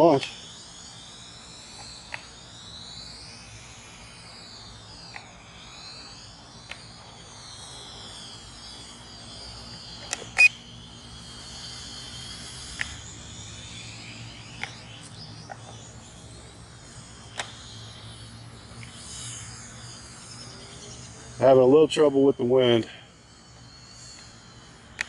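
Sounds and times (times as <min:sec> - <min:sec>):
drone propellers whining: 0:00.0 - 0:25.0.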